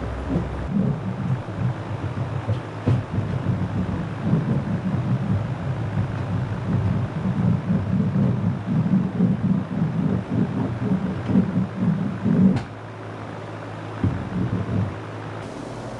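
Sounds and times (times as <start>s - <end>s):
wind buffeting microphone: 0.0s - 12.6s, 14.0s - 15.0s.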